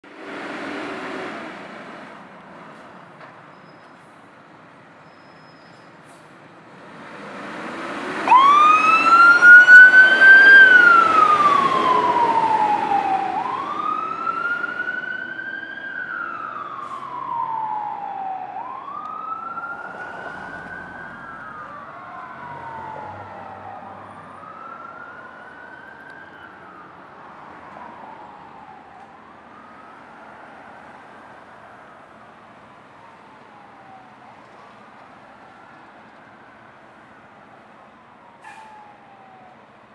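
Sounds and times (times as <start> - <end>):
fire engine siren wailing: 7.3 - 39.9.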